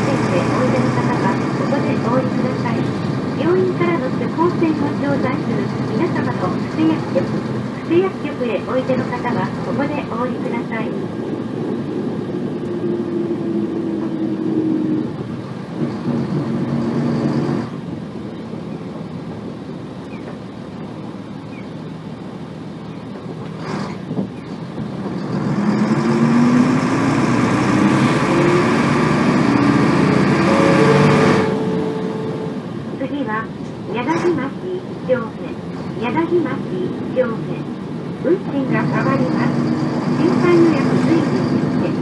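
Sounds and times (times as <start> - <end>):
bus diesel engine revving: 0.0 - 42.0.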